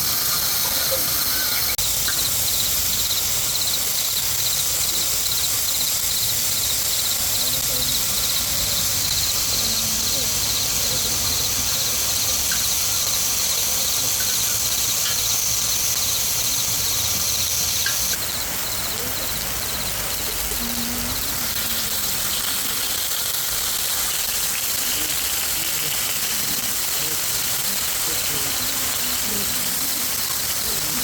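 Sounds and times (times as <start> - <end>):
insects chirping trill: 0.0 - 31.0
steady high hiss: 0.0 - 31.0.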